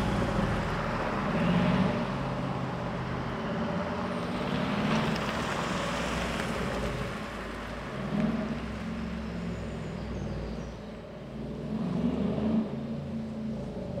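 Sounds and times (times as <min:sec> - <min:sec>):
car engine driving away: 0:00.0 - 0:14.0.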